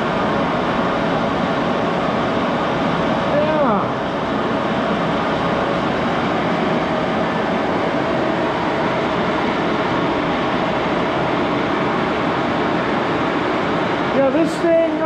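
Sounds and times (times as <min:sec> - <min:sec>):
lathe whirring: 0:00.0 - 0:15.0.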